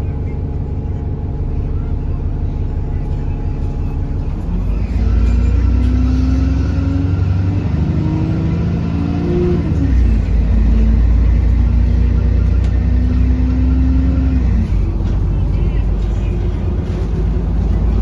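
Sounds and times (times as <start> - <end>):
bus engine accelerating: 0.0 - 18.0.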